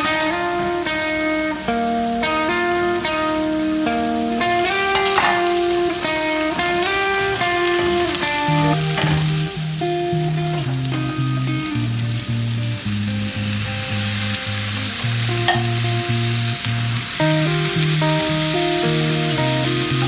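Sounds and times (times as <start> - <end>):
plucked music with bass line: 0.0 - 20.0
vegetables sizzling in a pan: 0.0 - 20.0.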